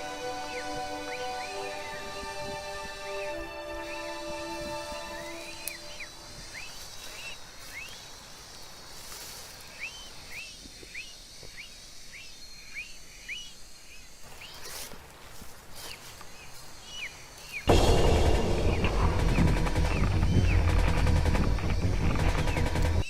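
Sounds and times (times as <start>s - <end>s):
bird chirping: 0.0s - 8.7s, 9.6s - 14.8s, 15.8s - 23.0s.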